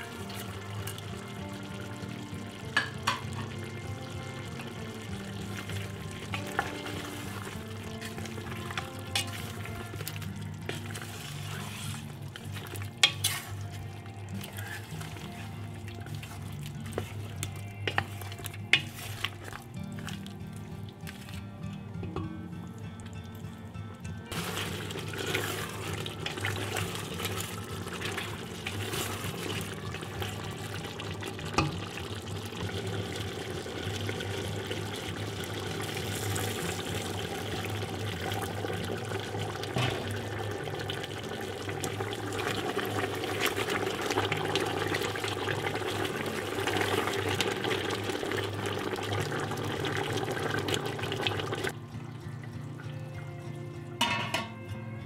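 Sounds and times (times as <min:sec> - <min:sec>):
liquid bubbling and crackling: 0:00.0 - 0:54.5
chicken frying in a pot: 0:00.0 - 0:54.6
background music: 0:00.0 - 0:55.0.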